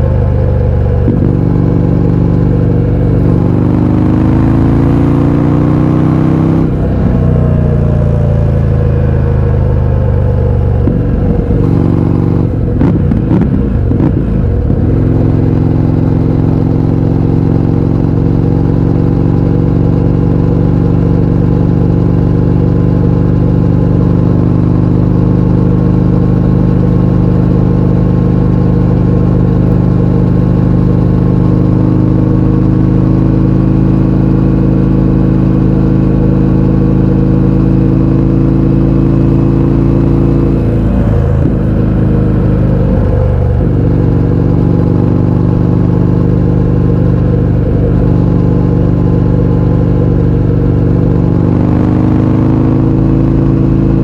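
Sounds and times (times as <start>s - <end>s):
loud motorcycle engine revving: 0.0s - 54.0s.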